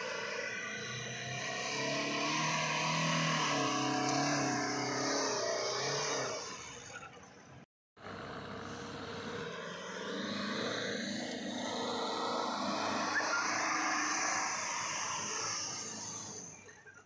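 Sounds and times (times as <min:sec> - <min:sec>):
car engine running under load: 0:01.2 - 0:17.0.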